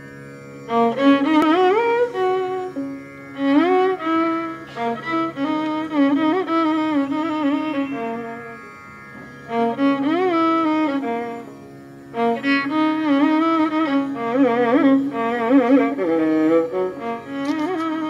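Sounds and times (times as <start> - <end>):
ornamented instrumental melody: 0.6 - 18.0.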